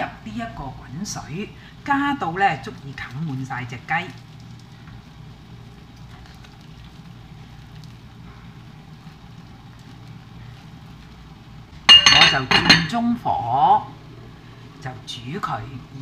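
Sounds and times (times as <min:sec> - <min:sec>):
pot of water rumbling: 0:01.0 - 0:14.7.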